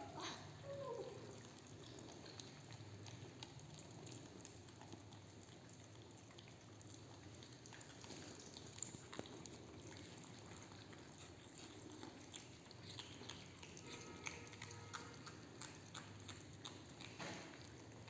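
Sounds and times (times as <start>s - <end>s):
cats chewing and crunching: 0.0s - 18.0s.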